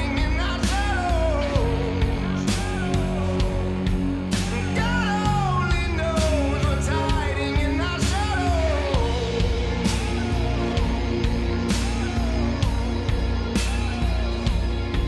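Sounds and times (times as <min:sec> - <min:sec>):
bass: 0:00.0 - 0:15.0
rock song with singing: 0:00.0 - 0:15.0.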